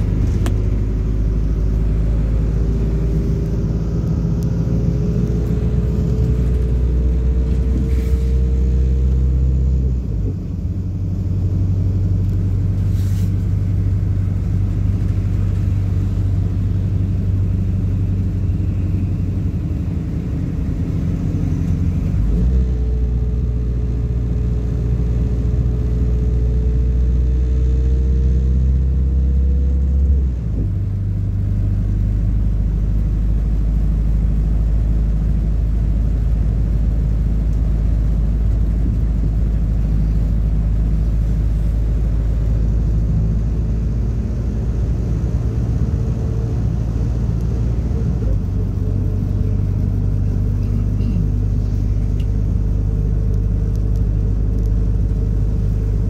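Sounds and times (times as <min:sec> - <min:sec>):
bus engine drone: 0:00.0 - 0:56.0
faint drivetrain whine: 0:00.0 - 0:56.0.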